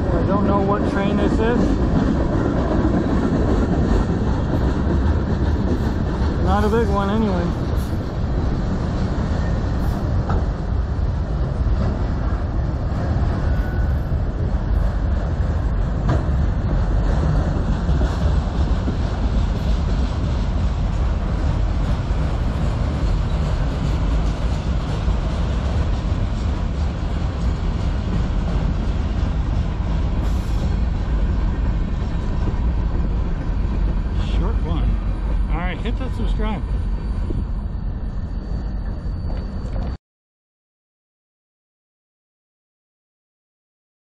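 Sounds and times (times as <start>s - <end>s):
steel wheels rolling on rail: 0.0s - 40.0s.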